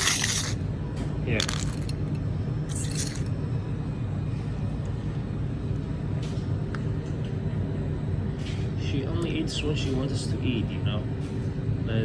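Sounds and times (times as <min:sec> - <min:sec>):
low rumble of machinery or traffic: 0:00.0 - 0:12.0.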